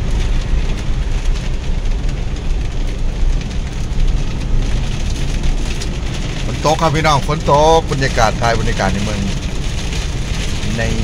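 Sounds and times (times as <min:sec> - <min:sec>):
engine and tyres rumbling on wet road: 0:00.0 - 0:11.0
rain hitting windscreen and roof: 0:00.0 - 0:11.0.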